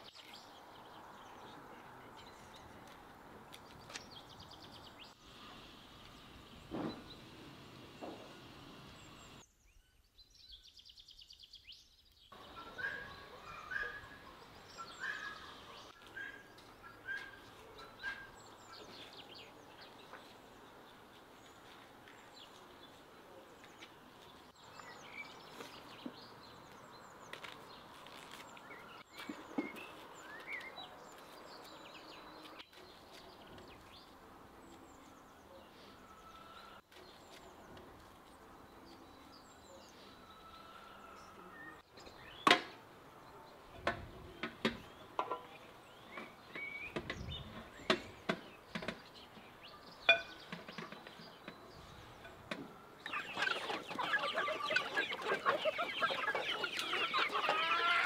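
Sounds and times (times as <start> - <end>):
small birds chirping: 0.0 - 36.2, 44.1 - 58.0
faint background noise: 0.0 - 58.0.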